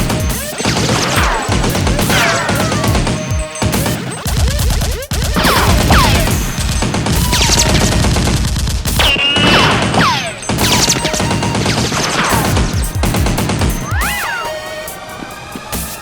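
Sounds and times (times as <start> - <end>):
whining ricochets: 0.0 - 4.4, 5.4 - 8.0, 9.0 - 12.9, 13.6 - 16.0
automatic gunfire: 0.0 - 14.2
background music: 0.0 - 16.0.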